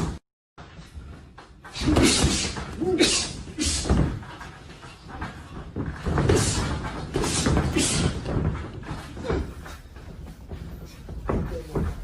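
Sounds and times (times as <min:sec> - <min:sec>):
punches thudding: 0:01.7 - 0:12.0.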